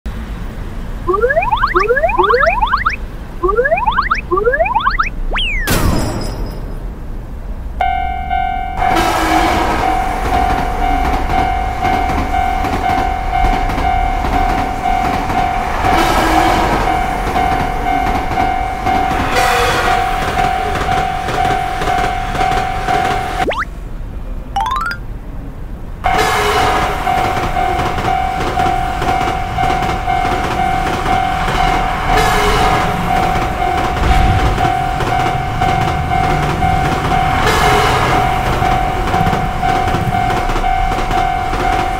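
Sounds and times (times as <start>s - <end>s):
railroad crossing alarm ringing: 1.1s - 5.8s, 7.8s - 23.4s, 26.1s - 41.9s
passing electric train: 6.8s - 41.9s.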